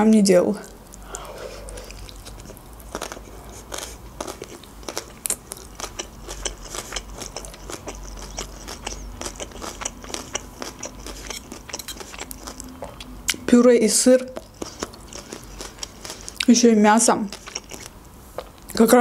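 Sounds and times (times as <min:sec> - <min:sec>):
chewing crunchy salad: 0:00.5 - 0:18.8.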